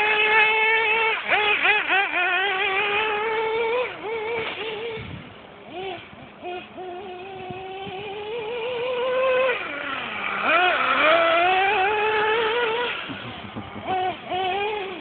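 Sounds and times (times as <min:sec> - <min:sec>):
nitro engine high-pitched whine: 0:00.0 - 0:15.0.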